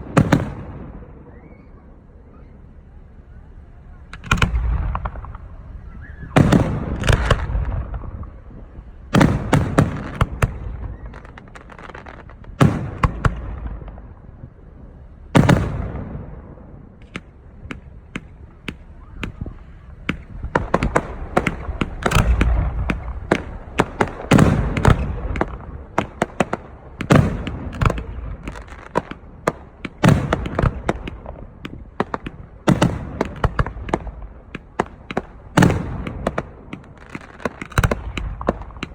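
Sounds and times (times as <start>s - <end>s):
firework shells booming: 0.0s - 2.8s, 4.0s - 38.9s
fireworks crackling snaps: 4.1s - 14.2s, 17.0s - 38.9s.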